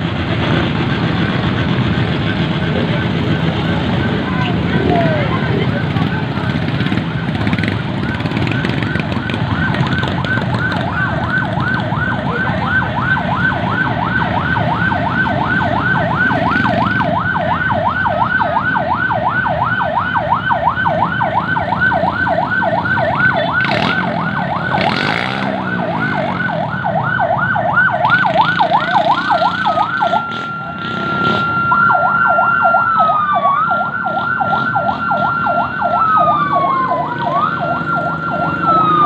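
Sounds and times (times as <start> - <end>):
motorcycle engines running: 0.0 - 39.0
electronic siren yelping: 2.3 - 39.0.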